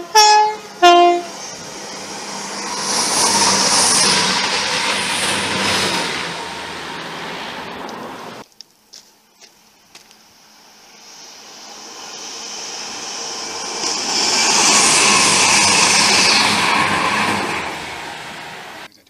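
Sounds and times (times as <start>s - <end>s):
train passing at speed: 0.0s - 8.4s, 9.6s - 18.9s.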